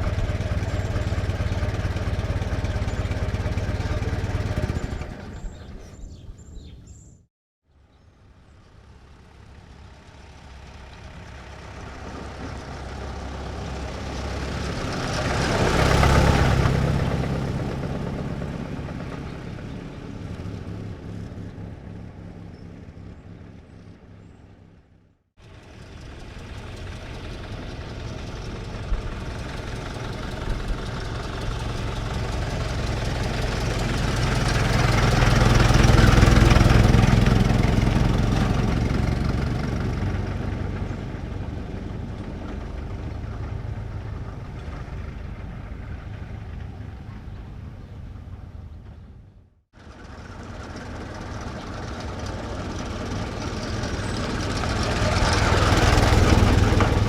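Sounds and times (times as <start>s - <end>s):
old truck engine: 0.0s - 7.1s, 8.7s - 57.0s
truck driving past: 0.0s - 7.1s, 8.3s - 57.0s.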